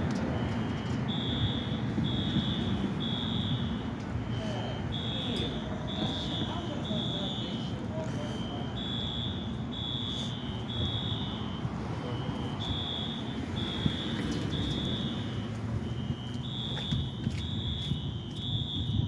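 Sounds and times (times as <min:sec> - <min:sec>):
fire alarm electronic tones: 0:00.0 - 0:19.0.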